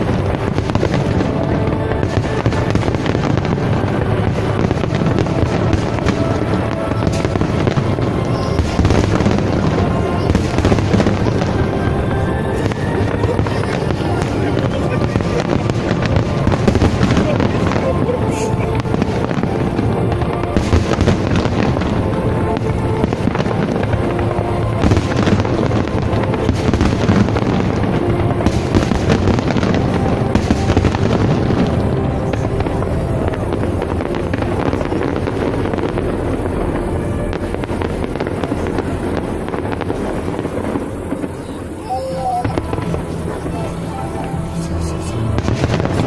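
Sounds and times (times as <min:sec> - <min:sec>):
fireworks bangs and crackle: 0:00.0 - 0:46.0
music playing: 0:00.0 - 0:46.0.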